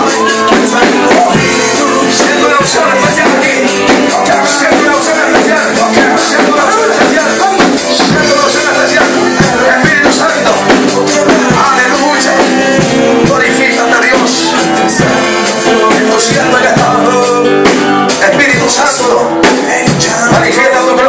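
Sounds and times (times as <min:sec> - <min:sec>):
drum kit beat: 0:00.0 - 0:21.0
loud worship music: 0:00.0 - 0:21.0.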